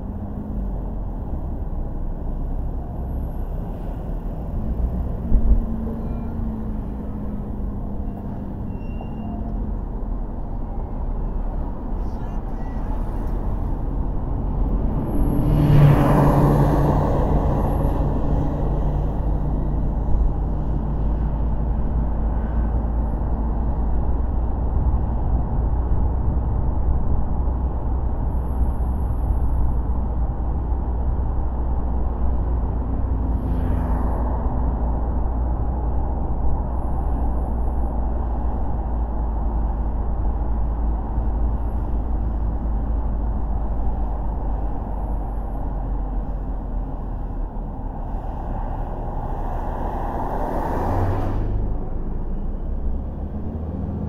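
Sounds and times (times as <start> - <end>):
car driving rumble: 0.0 - 54.0
road noise: 0.0 - 54.0.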